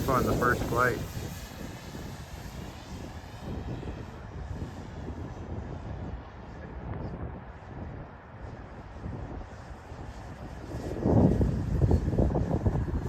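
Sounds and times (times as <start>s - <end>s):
model plane propeller buzz: 0.0s - 13.0s.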